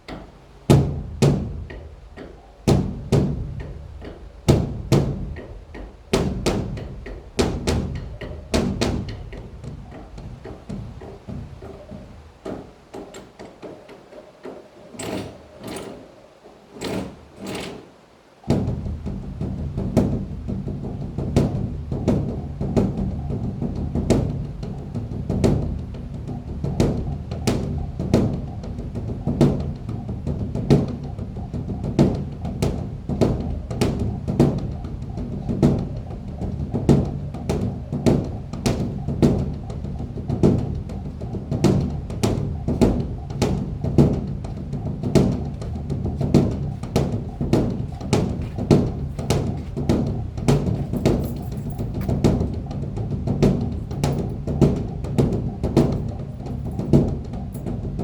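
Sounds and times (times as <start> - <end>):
large drum beaten: 0.0 - 12.8, 18.4 - 58.0.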